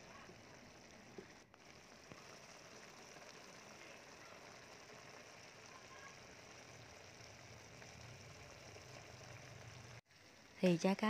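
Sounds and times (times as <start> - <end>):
sauce simmering in a frying pan: 0.0 - 11.0.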